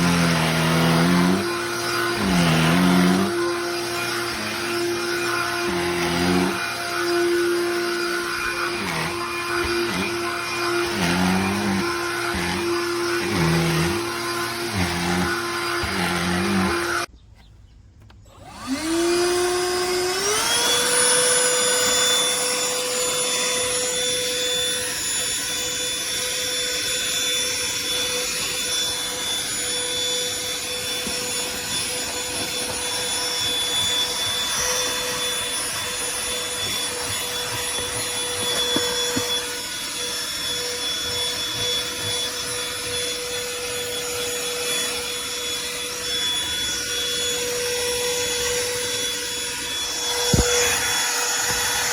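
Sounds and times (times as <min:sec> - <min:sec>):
handheld vacuum motor whine: 0:00.0 - 0:17.1, 0:18.0 - 0:51.9.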